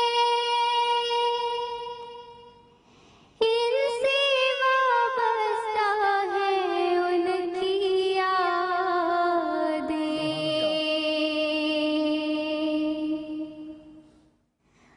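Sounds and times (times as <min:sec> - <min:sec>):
girl singing: 0:00.0 - 0:02.6, 0:03.4 - 0:14.0.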